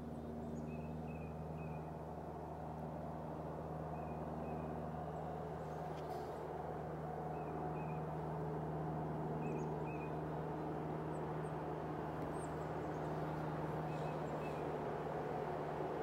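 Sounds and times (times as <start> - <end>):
train approaching low hum: 0.0 - 16.0.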